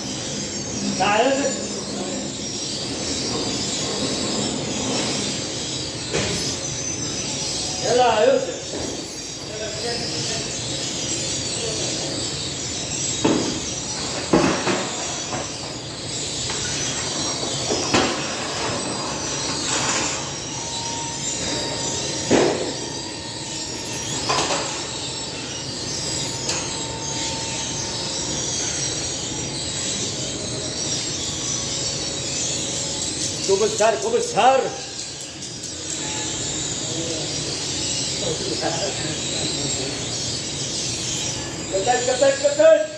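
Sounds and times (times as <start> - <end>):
oven machine noise: 0.0 - 42.9.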